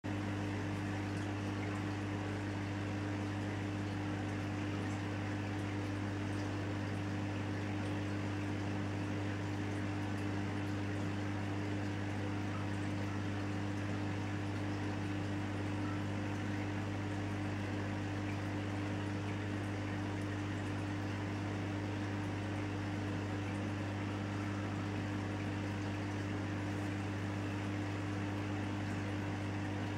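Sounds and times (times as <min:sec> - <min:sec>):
aquarium pump humming: 0:00.1 - 0:29.9.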